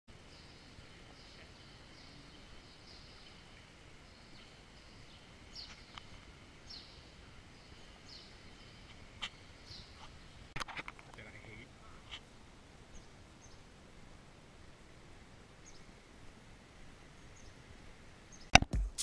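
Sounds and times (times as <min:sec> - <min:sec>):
faint birds chirping: 0:00.1 - 0:18.6
low steady hiss: 0:00.1 - 0:19.0.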